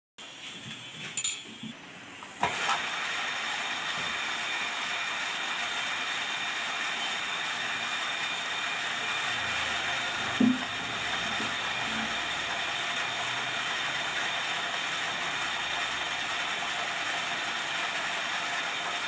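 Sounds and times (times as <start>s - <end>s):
lathe cutting hiss: 0.2s - 19.0s.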